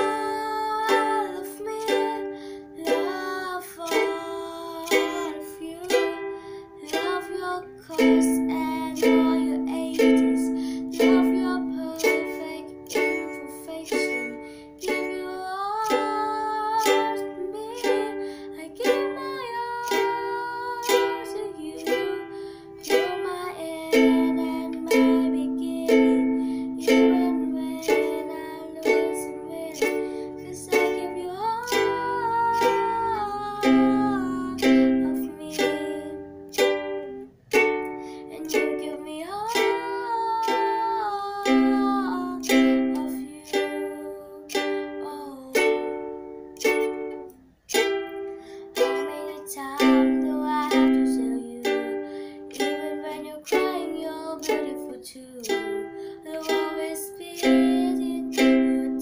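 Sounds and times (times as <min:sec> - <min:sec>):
girl singing: 0:00.0 - 0:59.0
ukulele strumming: 0:00.0 - 0:59.0.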